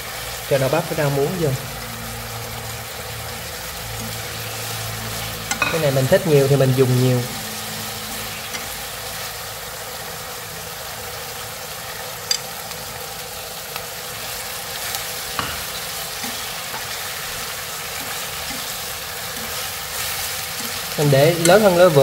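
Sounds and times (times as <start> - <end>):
glaze sizzling in a wok: 0.0 - 22.0
stir-frying with chopsticks: 0.0 - 22.0.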